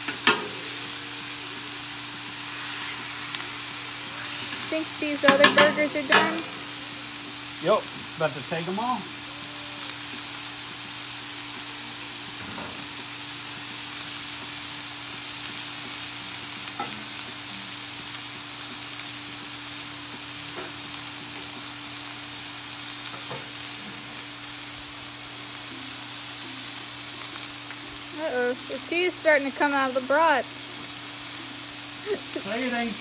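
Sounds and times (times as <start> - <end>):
meat sizzling on griddle: 0.0 - 33.0.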